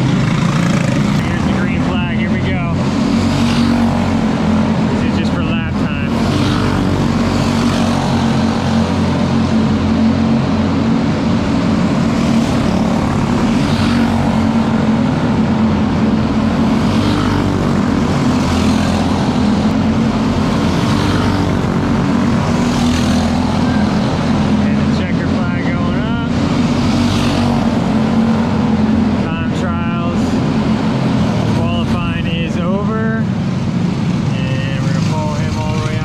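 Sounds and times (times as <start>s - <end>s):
kart engine at high revs: 0.0s - 31.9s.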